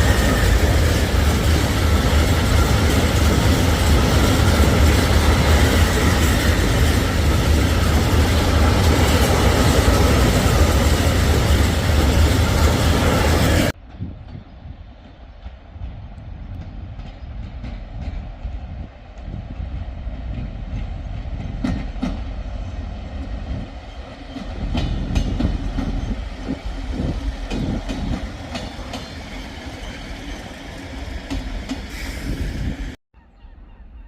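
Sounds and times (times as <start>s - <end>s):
train rumbling on rails: 0.0s - 33.0s.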